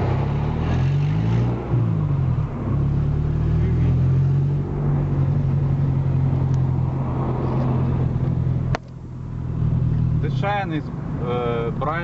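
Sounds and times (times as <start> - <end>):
car engine drone: 0.0 - 12.0
road noise: 0.0 - 12.0.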